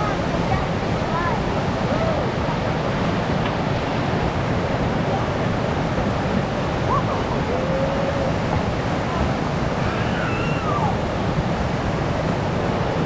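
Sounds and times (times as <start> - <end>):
whitewater rapid rushing over rocks: 0.0 - 13.0.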